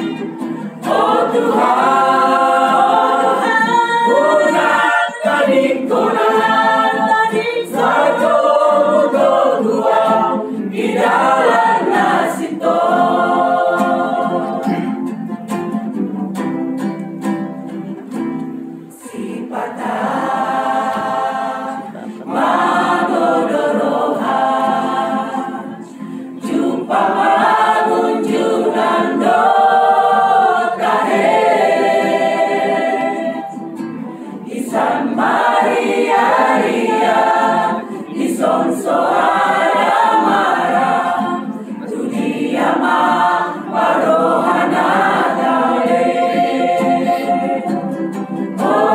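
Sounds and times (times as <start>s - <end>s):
mixed choir singing: 0.0s - 15.3s, 18.9s - 48.9s.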